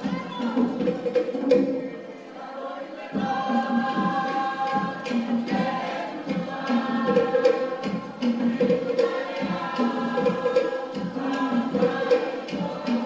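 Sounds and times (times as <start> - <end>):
group singing in chorus: 0.0 - 13.0.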